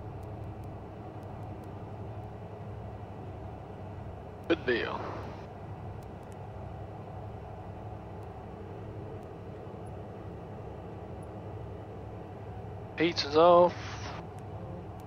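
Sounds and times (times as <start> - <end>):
faint steady tone: 0.0 - 15.0
jet engines idling drone: 0.0 - 15.0.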